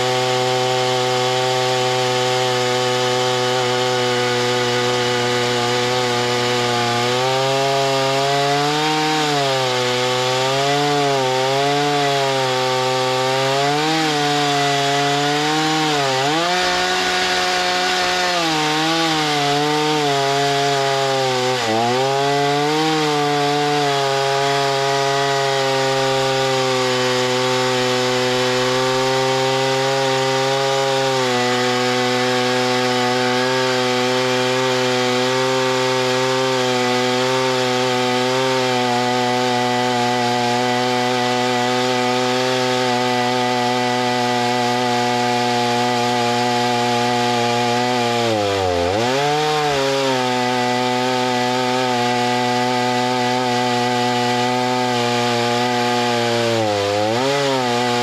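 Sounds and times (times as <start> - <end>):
chainsaw cutting: 0.0 - 58.0.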